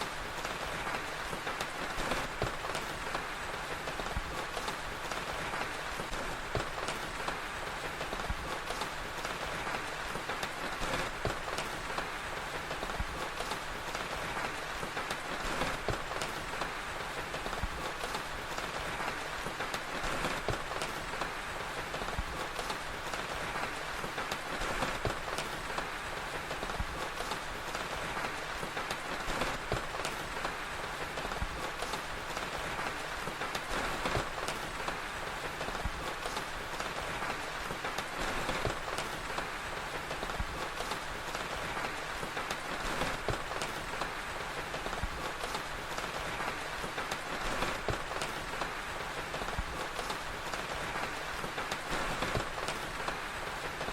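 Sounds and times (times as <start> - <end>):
fire crackling: 0.0 - 53.9
steady rain hiss: 0.0 - 53.9.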